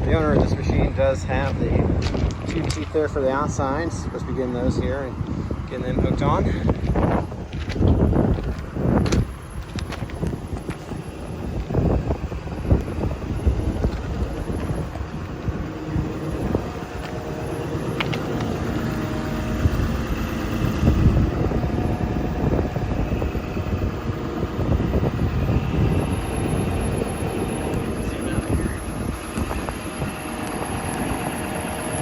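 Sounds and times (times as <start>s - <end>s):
excavator diesel engine running: 0.0s - 32.0s
wind buffeting microphone: 0.0s - 32.0s.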